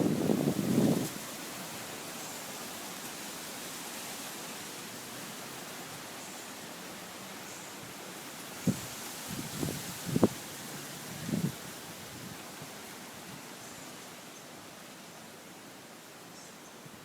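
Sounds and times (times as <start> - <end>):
wind blowing through trees: 0.0 - 17.0.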